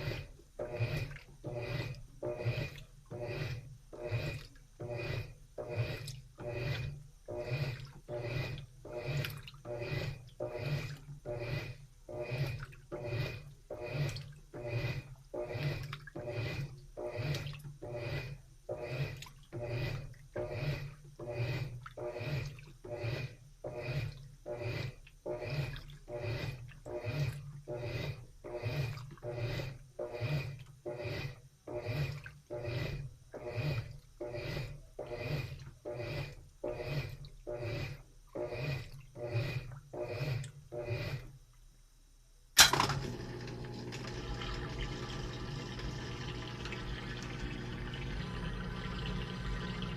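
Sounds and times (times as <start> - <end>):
water swishing: 0.0 - 41.3
washing machine motor hum: 0.0 - 41.4, 42.6 - 49.9.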